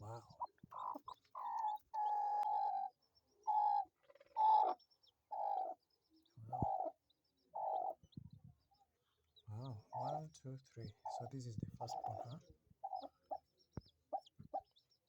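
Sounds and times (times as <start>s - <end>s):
hen calling: 0.0s - 8.0s, 9.4s - 14.8s
chicks peeping: 0.0s - 15.0s.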